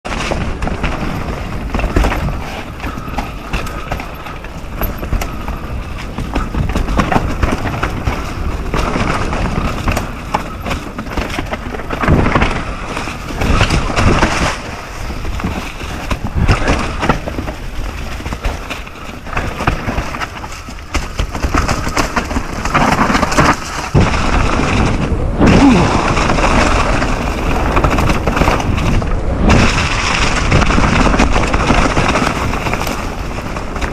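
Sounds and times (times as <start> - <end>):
bike knocking and rattling: 0.1 - 33.9
bike tyres rolling and skidding: 0.1 - 33.9.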